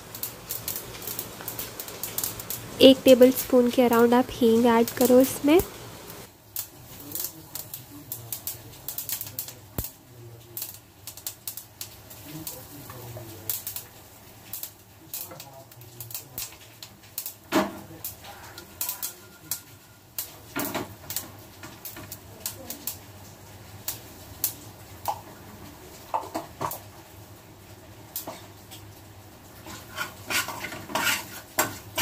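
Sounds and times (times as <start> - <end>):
seeds spluttering in hot oil: 0.0 - 32.0.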